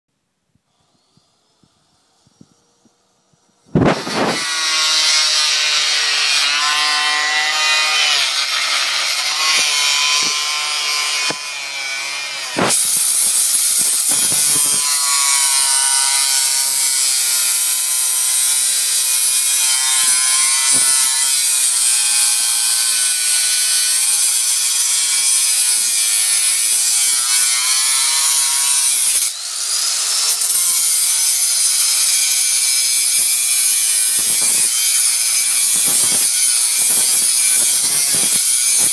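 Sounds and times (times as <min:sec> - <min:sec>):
angle grinder cutting metal: 0:00.8 - 0:38.9.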